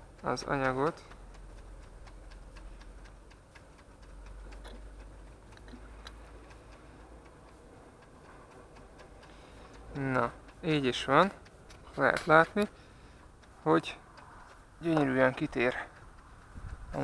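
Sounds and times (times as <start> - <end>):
faint rapid ticking: 0.0 - 17.0.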